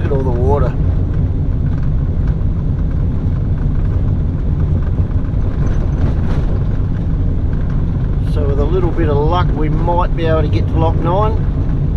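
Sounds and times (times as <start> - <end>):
car engine and road rumble: 0.0 - 11.9.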